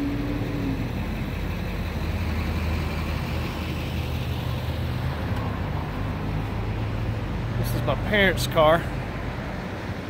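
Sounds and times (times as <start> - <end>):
engine idling: 0.0 - 9.0.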